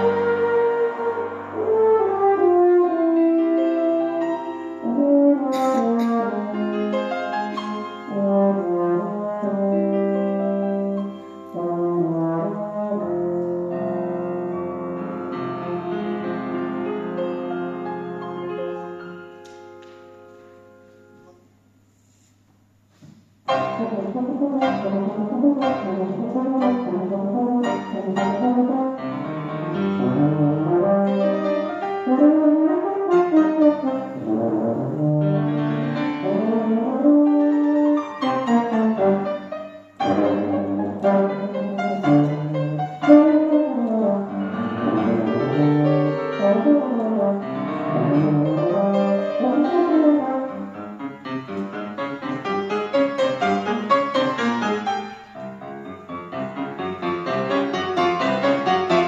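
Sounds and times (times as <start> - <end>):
tuba playing a melody: 0.0 - 19.5, 23.5 - 59.0
grand piano accompaniment: 0.0 - 59.0.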